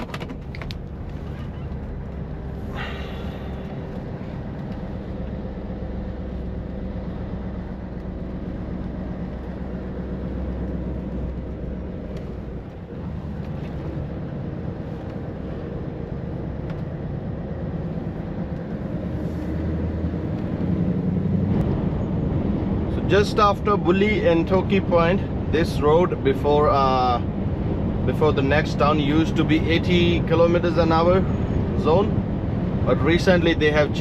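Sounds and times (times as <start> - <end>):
truck diesel engine drone: 0.0 - 34.0.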